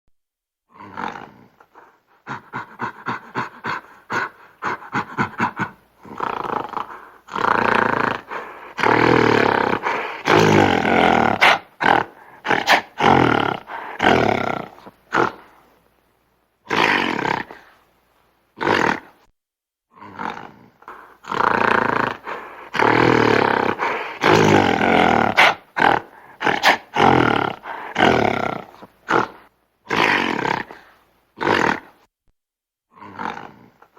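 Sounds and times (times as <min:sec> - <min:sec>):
gorilla grunts: 0:00.7 - 0:15.6, 0:16.7 - 0:17.7, 0:18.6 - 0:19.2, 0:19.9 - 0:32.0, 0:32.9 - 0:33.9
gorilla roaring: 0:00.7 - 0:15.6, 0:16.7 - 0:17.7, 0:18.6 - 0:19.2, 0:19.9 - 0:32.1, 0:32.9 - 0:33.9.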